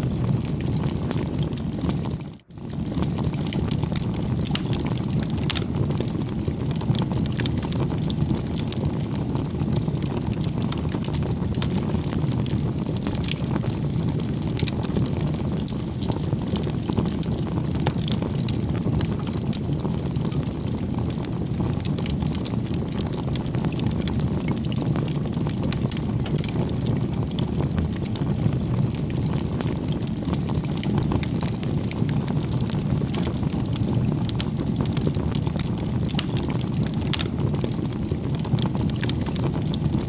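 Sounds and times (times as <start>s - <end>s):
bonfire flames rumbling: 0.0s - 40.0s
fire crackles and pops: 0.0s - 40.0s.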